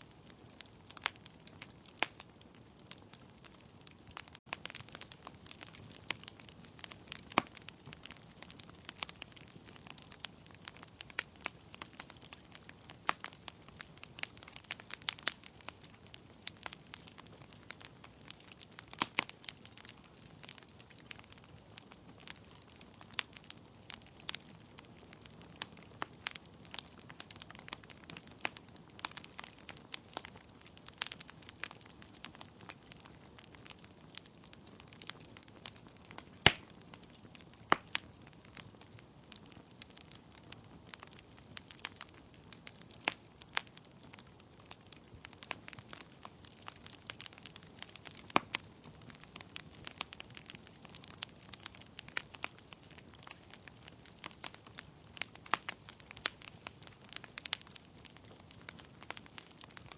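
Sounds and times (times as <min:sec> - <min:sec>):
low steady fire hiss: 0:00.0 - 0:59.9
wood fire crackling: 0:00.0 - 0:59.9.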